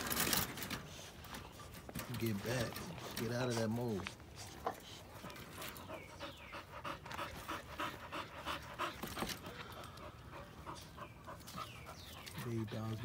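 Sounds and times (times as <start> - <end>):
dog panting: 1.0 - 13.0.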